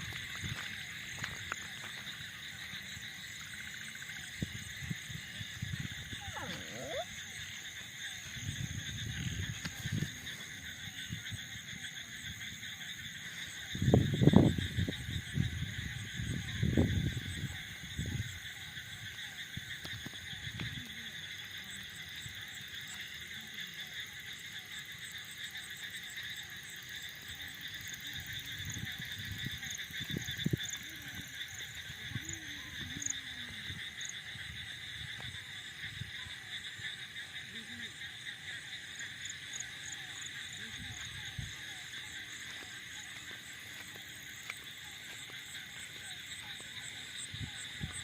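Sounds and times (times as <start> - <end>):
insects buzzing: 0.0 - 48.0.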